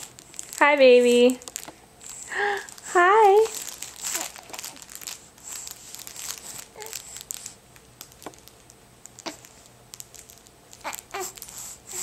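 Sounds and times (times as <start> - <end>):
crinkle toy crackling: 0.0 - 12.0.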